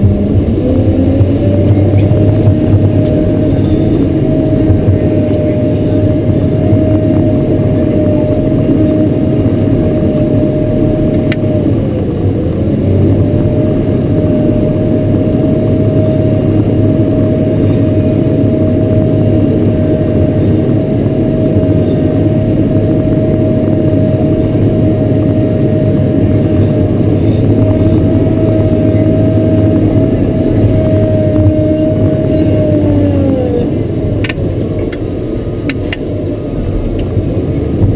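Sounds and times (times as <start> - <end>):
diesel engine running: 0.0 - 37.9
high whine: 0.0 - 37.9.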